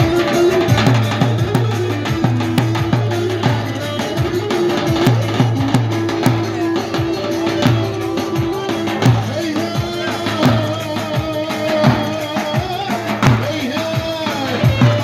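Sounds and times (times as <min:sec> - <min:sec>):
bass drum beating: 0:00.0 - 0:15.0
folk dance music: 0:00.0 - 0:15.0.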